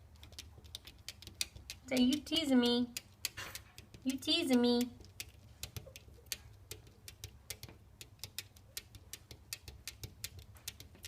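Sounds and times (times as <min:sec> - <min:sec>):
bird pecking at window glass: 0:00.0 - 0:11.0.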